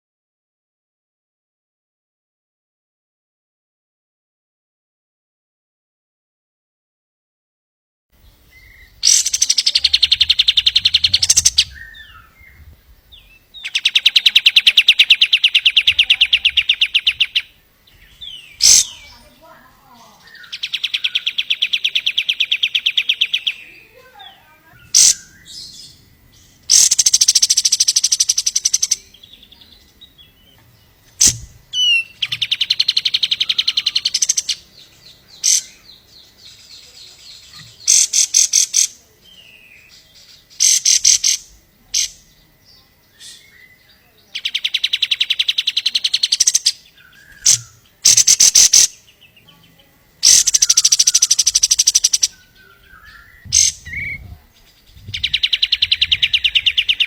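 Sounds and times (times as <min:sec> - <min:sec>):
bird chirps: 0:08.2 - 0:57.0
songbird rapid trills: 0:08.6 - 0:49.4, 0:50.2 - 0:57.0.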